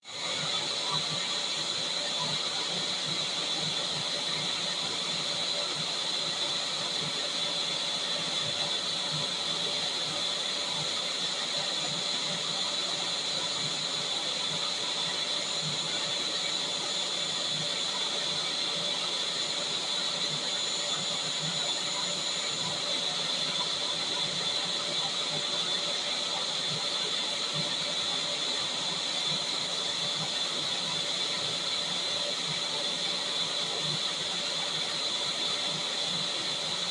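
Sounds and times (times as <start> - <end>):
vacuum cleaner running: 0.0 - 36.9.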